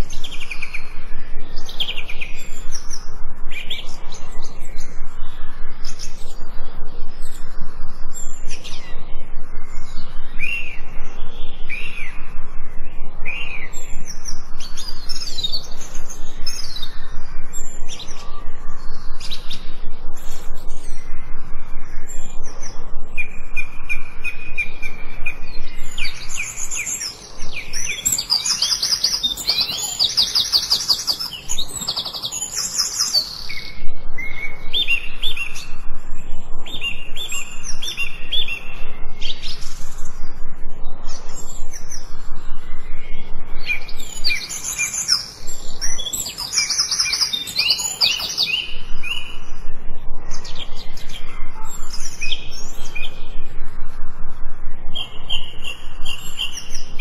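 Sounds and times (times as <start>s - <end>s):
songbirds singing: 0.0s - 53.6s, 54.8s - 57.0s.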